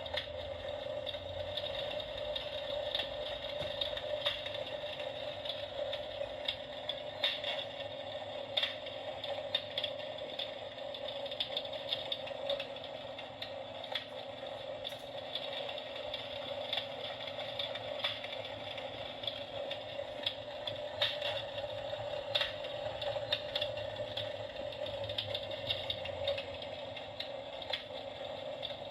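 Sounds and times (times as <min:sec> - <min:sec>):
electric fireplace motor hum: 0:00.0 - 0:28.9
clicks and crackles: 0:01.0 - 0:28.9.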